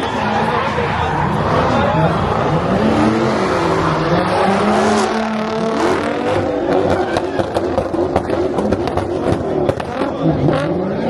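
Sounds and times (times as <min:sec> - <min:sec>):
car engine revving hard: 0:01.2 - 0:11.0.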